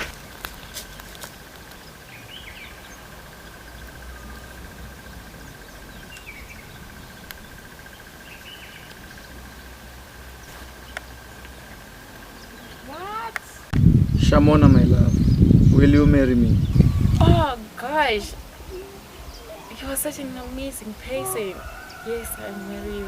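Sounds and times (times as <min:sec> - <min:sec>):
insect trilling: 0:00.0 - 0:13.7, 0:16.5 - 0:23.0
outdoor background noise: 0:00.0 - 0:23.0.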